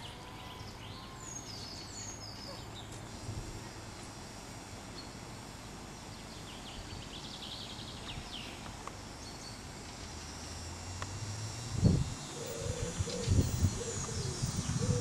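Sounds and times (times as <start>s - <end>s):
small birds chirping: 0.0s - 3.0s, 5.9s - 15.0s
steady low hum: 0.0s - 15.0s.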